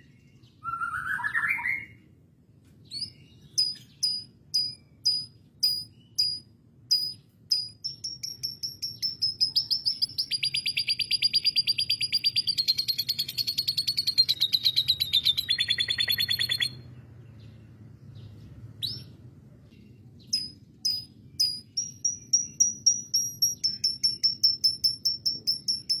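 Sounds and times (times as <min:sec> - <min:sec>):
canary chirping and trilling: 0:02.8 - 0:26.0.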